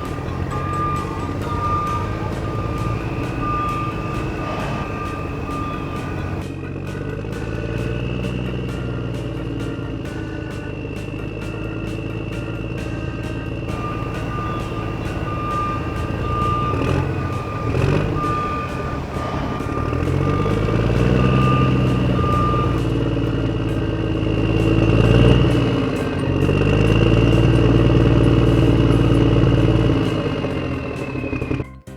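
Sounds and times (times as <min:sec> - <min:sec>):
reversing alarm beeping: 0:00.0 - 0:06.6, 0:10.4 - 0:31.8
steady high whine: 0:00.0 - 0:07.2, 0:07.8 - 0:31.4
diesel engine revving: 0:00.0 - 0:31.9.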